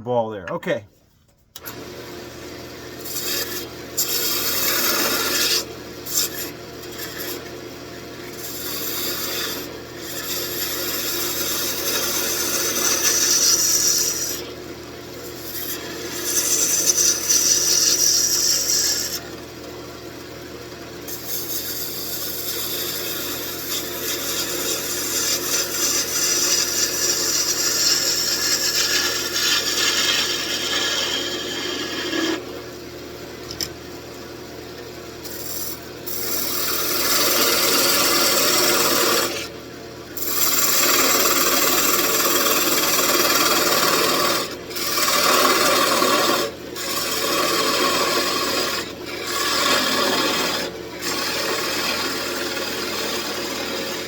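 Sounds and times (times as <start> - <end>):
wood lathe humming: 1.6 - 14.5, 15.4 - 19.6, 21.1 - 32.7, 35.2 - 39.5, 40.1 - 54.0
turning tool scraping wood: 2.9 - 7.6, 8.2 - 14.5, 15.4 - 19.3, 21.1 - 32.5, 35.2 - 39.5, 40.2 - 54.0.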